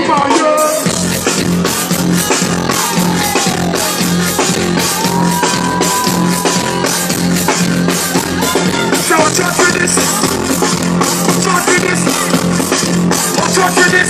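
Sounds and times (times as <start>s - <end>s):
heavy bass: 0.0s - 14.0s
live band music: 0.0s - 14.0s
steady drum beat: 0.0s - 14.0s
held melodic line: 0.9s - 14.0s.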